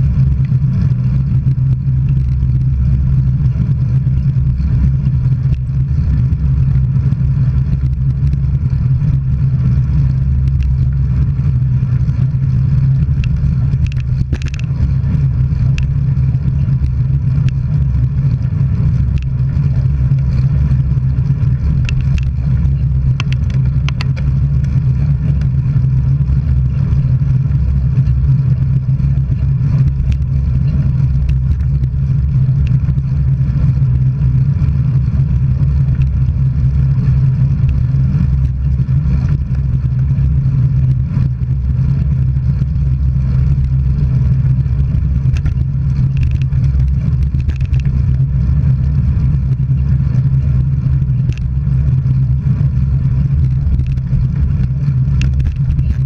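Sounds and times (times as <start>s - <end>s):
faint ticks and clicks: 0.0s - 56.0s
road travel rumble: 0.0s - 56.0s
wind: 0.0s - 56.0s.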